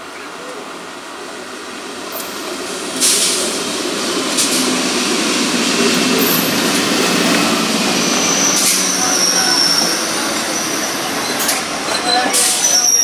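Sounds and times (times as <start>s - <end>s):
train wheels on rails: 0.4s - 13.0s.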